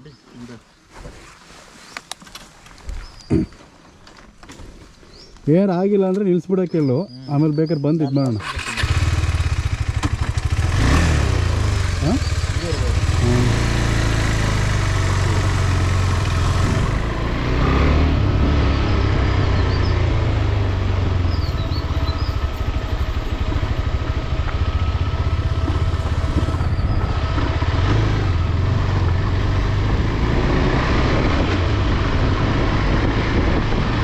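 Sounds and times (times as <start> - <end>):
motorcycle engine rumbling: 5.5 - 34.0.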